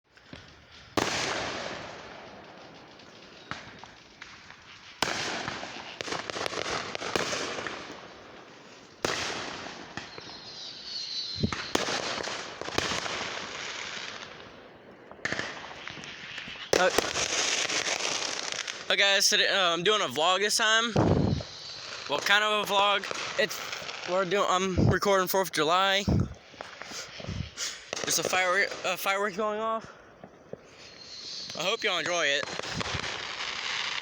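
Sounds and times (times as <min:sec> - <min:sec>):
fireworks bangs: 0:00.1 - 0:34.0
fireworks crackling and popping: 0:00.1 - 0:34.0.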